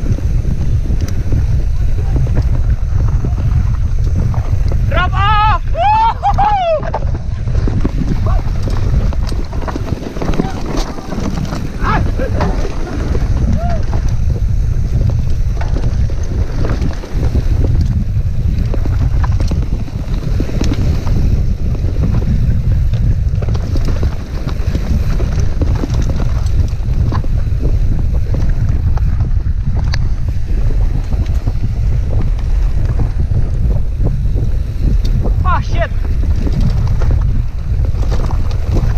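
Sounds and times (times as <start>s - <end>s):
bike rattling over rocks: 0.0s - 38.9s
wind buffeting microphone: 0.0s - 38.9s.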